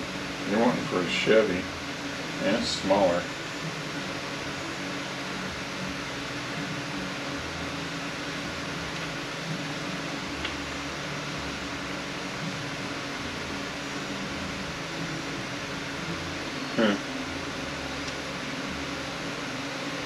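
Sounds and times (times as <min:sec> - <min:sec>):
mechanical hum with hiss: 0:00.0 - 0:20.0.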